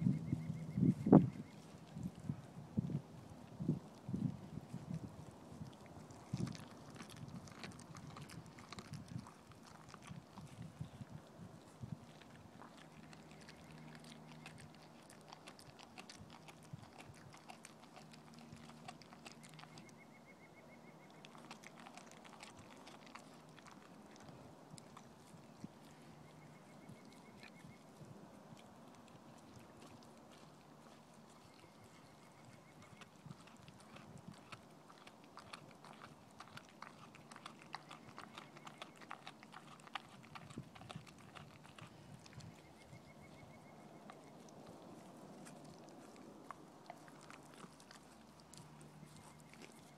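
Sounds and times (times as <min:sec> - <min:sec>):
dog chewing wet food: 0:00.1 - 0:49.9.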